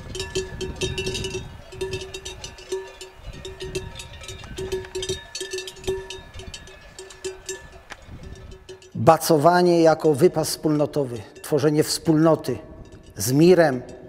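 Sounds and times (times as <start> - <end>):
sheep bells clanking: 0.0 - 14.0.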